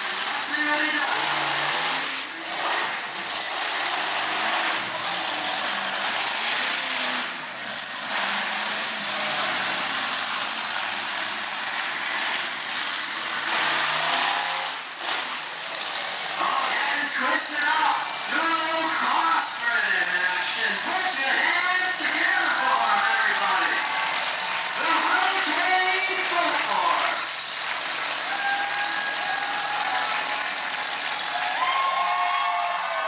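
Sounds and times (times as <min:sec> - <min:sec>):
truck engine revving hard: 0:00.0 - 0:33.0.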